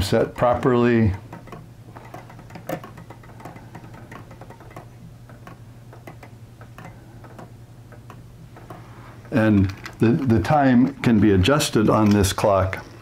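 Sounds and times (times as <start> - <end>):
pendulum clock ticking: 0.0 - 12.0.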